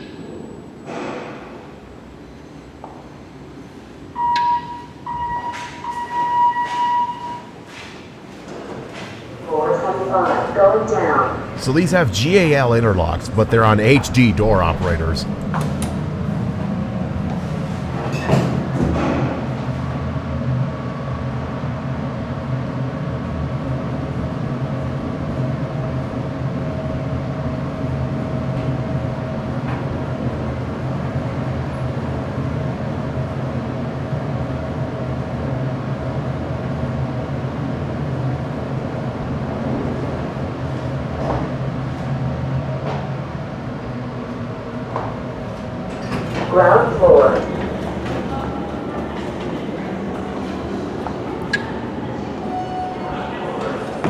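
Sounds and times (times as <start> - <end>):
elevator rumble and hum: 1.8 - 54.0.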